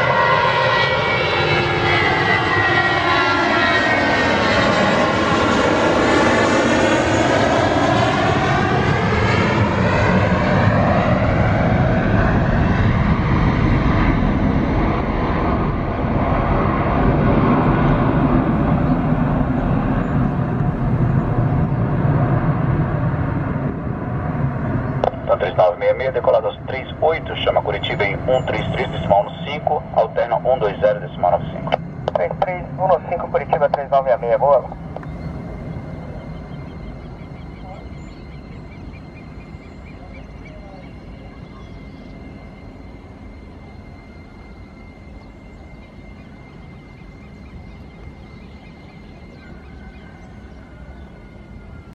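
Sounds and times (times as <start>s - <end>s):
jet engines at takeoff: 0.0s - 51.9s.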